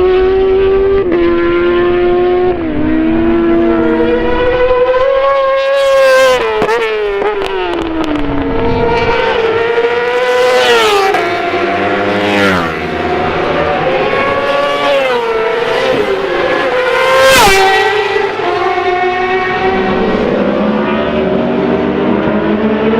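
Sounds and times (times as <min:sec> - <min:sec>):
racing motorcycles passing: 0:00.0 - 0:22.9.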